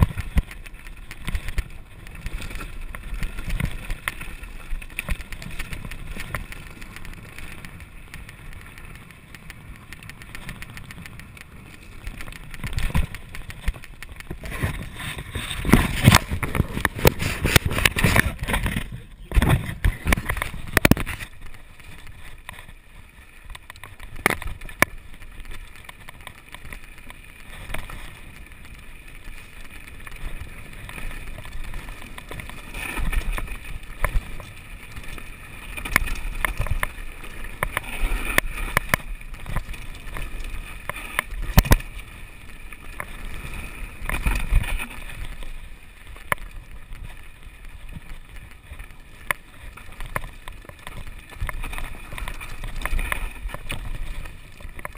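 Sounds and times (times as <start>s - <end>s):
bike rattling: 0.0s - 54.9s.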